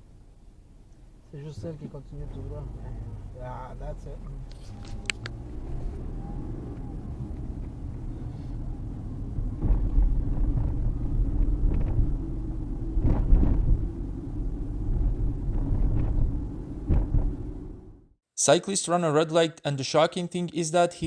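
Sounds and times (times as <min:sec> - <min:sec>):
car engine and tyre rumble: 0:00.0 - 0:18.2.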